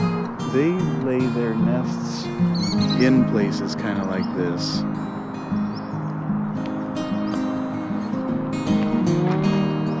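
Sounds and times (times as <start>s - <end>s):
melodic instrumental music: 0.0s - 10.0s.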